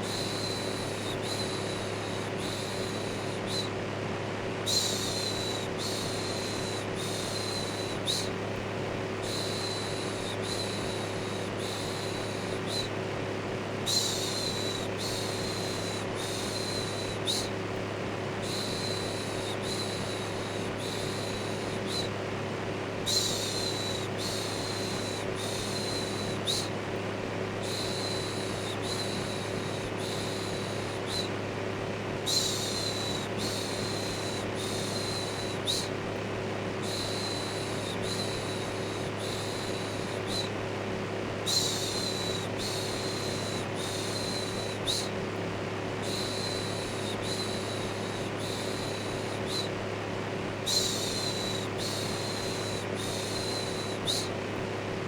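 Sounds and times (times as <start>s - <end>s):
electric fan humming: 0.0s - 55.0s.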